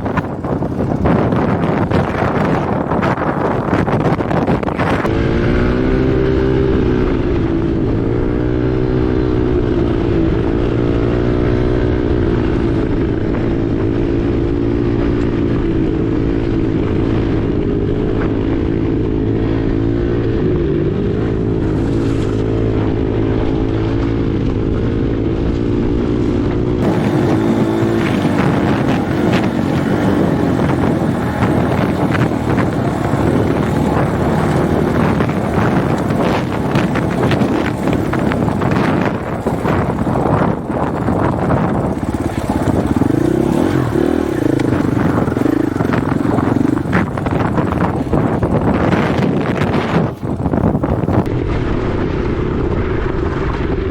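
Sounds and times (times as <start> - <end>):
dirt bike engine revving: 0.0 - 51.3
wind rumble on microphone: 0.0 - 53.9.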